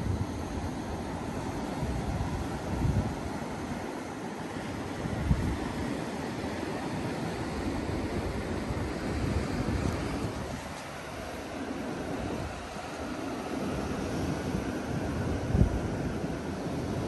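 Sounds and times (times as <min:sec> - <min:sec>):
wind buffeting microphone: 0:00.0 - 0:03.8, 0:04.8 - 0:06.0, 0:07.4 - 0:17.0.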